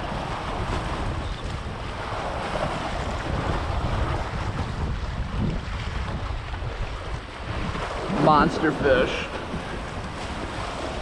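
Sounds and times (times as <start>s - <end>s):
sea waves washing against concrete: 0.0s - 11.0s
wind buffeting microphone: 0.0s - 11.0s.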